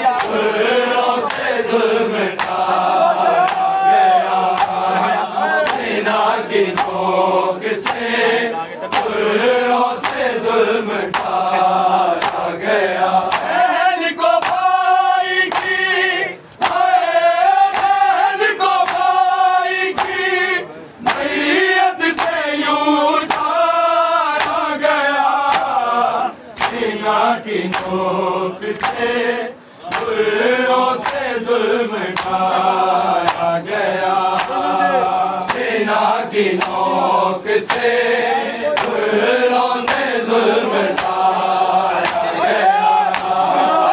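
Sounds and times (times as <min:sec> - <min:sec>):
men chanting: 0:00.0 - 0:43.9
sharp rhythmic chest slaps: 0:00.1 - 0:08.2, 0:08.8 - 0:29.2, 0:29.8 - 0:43.9.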